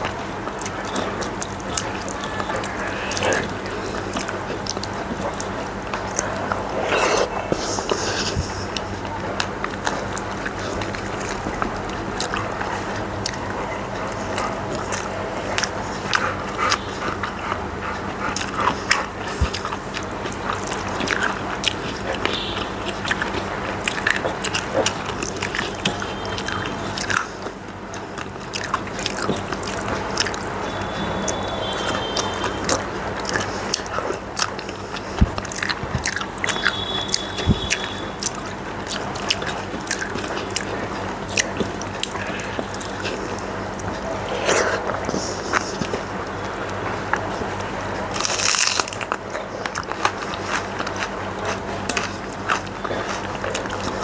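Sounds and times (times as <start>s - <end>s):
chewing and lip smacks: 0.0s - 54.0s
faint low hum: 0.0s - 54.0s.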